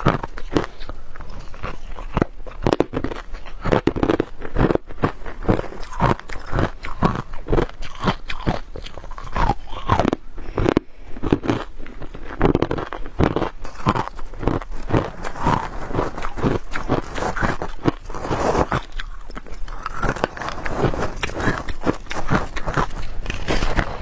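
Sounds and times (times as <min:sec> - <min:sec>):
crunching and chewing ice: 0:00.0 - 0:24.0.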